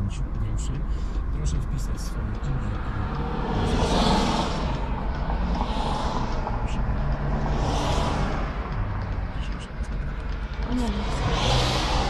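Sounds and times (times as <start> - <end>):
car cabin hum: 0.0 - 11.4
whooshes of passing traffic: 2.0 - 12.0.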